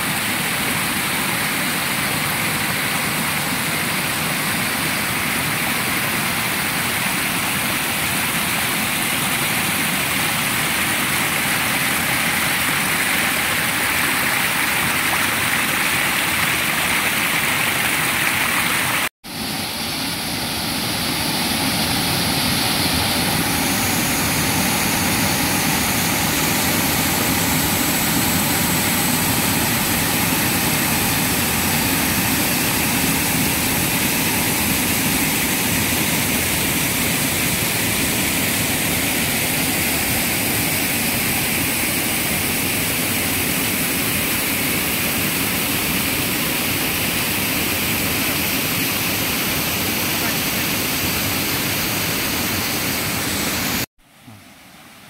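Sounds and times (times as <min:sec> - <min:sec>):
waterfall rushing over rocks: 0:00.0 - 0:53.9.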